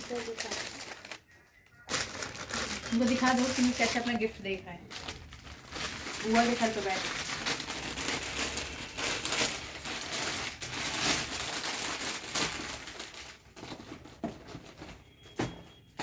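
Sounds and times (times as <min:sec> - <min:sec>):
gift wrapping crinkling: 0:00.0 - 0:14.8.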